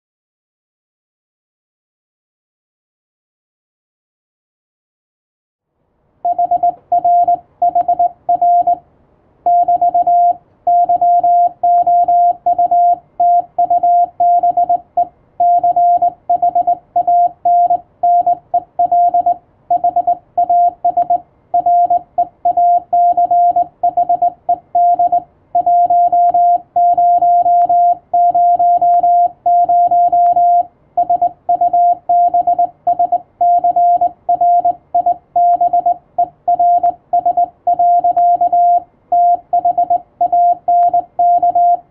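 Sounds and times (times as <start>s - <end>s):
morse code beeps: 6.2s - 8.8s, 9.5s - 41.9s.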